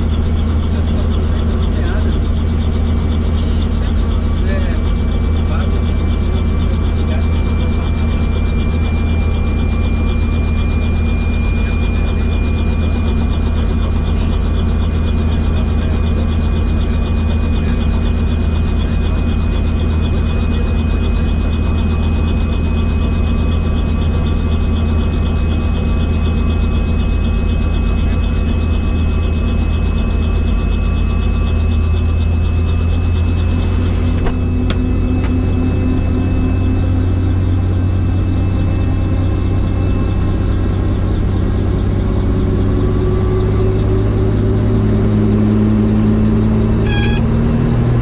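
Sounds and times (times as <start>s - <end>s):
helicopter rotor thrum: 0.0s - 47.9s
high turbine whine: 0.0s - 48.0s.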